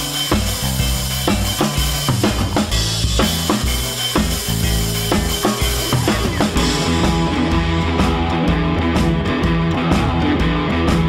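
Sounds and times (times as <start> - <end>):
rock music with guitar and drums: 0.0 - 11.0.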